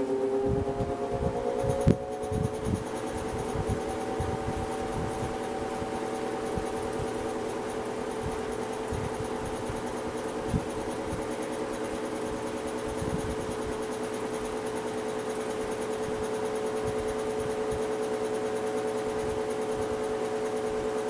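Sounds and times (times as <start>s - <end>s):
box fan motor hum: 0.0s - 21.0s.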